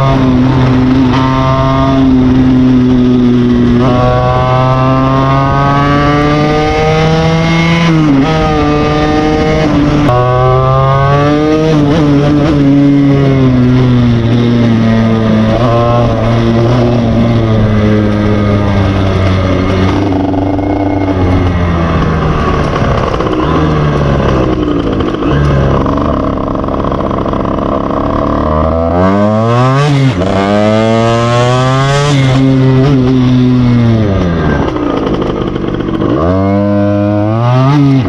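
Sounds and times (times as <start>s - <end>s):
two-stroke motorcycle engine accelerating: 0.0s - 38.0s.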